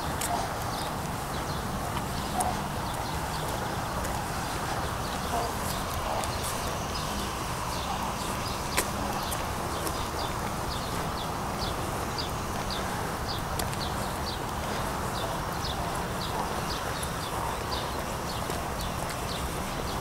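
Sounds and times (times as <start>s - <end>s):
footsteps on stone paving: 0.0s - 20.0s
outdoor background hiss: 0.0s - 20.0s.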